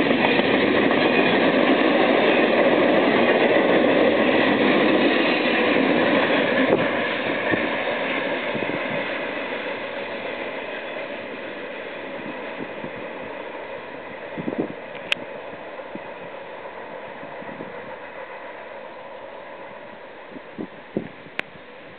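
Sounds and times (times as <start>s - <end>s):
freight train rolling: 0.0s - 21.9s.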